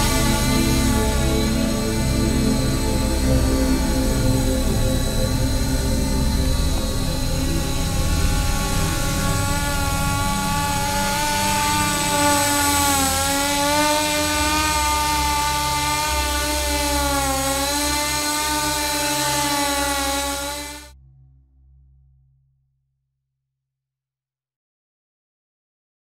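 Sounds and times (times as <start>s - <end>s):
drone motors whining: 0.0s - 20.9s.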